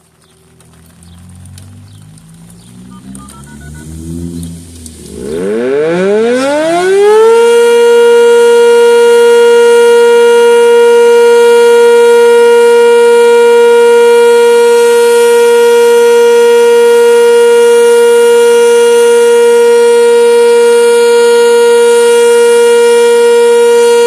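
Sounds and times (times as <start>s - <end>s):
warning siren winding up: 2.9s - 24.0s.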